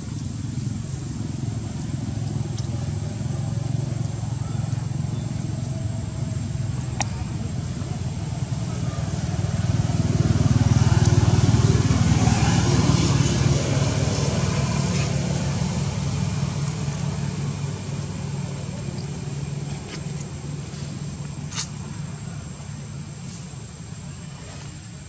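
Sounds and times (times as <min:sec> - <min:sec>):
vehicle engine passing by: 0:00.0 - 0:25.0.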